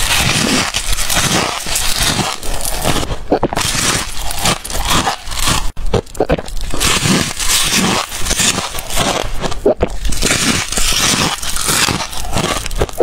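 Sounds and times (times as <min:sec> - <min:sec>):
frost crunching being chewed: 0:00.0 - 0:13.0.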